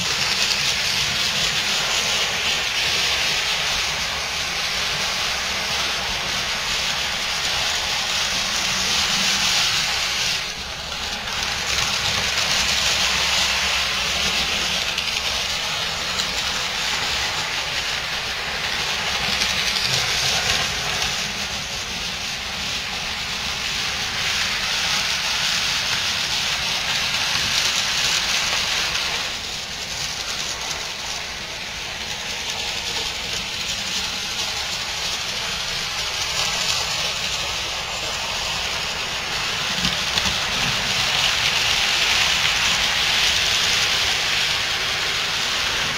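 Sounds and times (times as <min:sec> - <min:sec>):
model trains rolling on track: 0:00.0 - 0:45.9.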